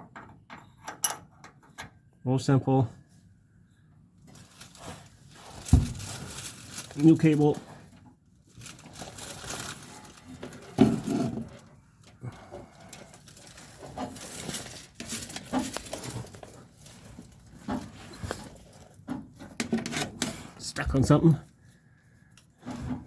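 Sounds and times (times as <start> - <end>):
metal cable scraping and rustling: 4.3 - 23.0.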